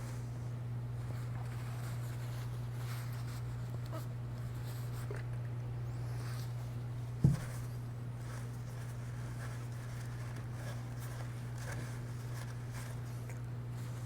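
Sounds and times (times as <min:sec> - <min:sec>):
faint handling noises: 0:00.0 - 0:14.0
low electrical hum: 0:00.0 - 0:14.0.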